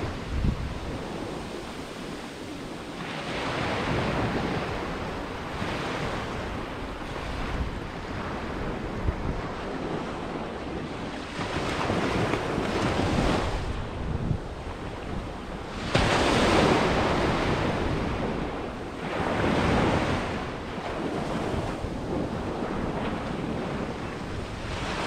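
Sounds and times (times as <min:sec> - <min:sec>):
sea waves breaking on a beach: 0:00.0 - 0:25.0.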